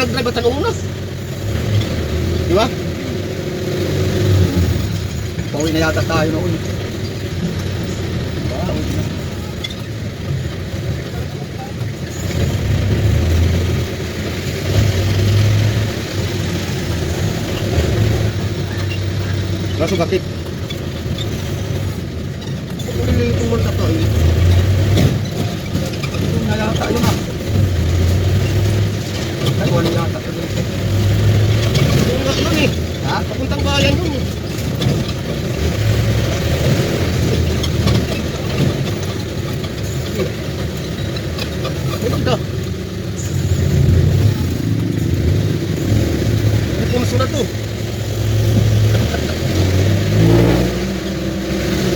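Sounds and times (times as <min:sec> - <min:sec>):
road noise hiss: 0:00.0 - 0:51.9
vehicle engine rumble: 0:00.0 - 0:51.9.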